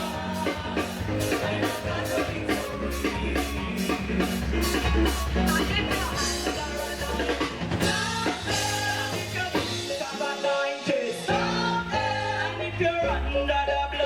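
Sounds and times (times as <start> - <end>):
bass guitar: 0.0 - 14.0
drum kit: 0.0 - 14.0
keyboard: 0.0 - 14.0
people singing: 0.0 - 14.0.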